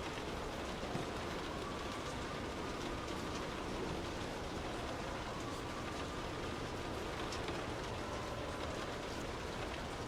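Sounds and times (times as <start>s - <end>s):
individual raindrop ticks: 0.0s - 10.0s
rain hissing on a car: 0.0s - 10.0s.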